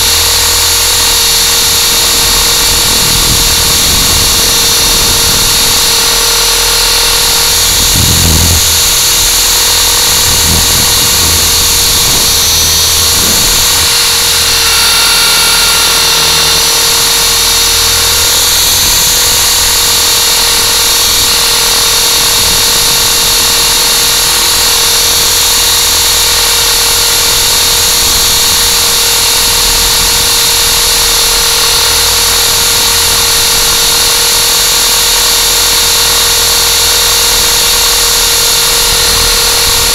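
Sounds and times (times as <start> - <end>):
drone motor whine: 0.0 - 39.9.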